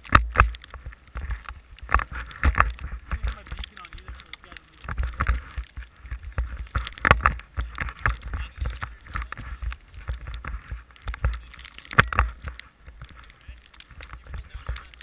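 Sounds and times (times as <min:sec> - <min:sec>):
snowmobile engine rumble: 0:00.0 - 0:15.0.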